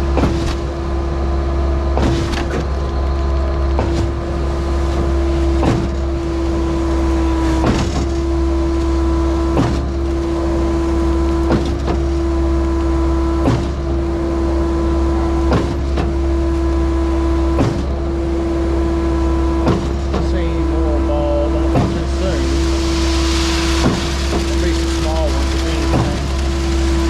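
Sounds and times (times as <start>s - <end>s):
concrete pump running: 0.0s - 27.0s.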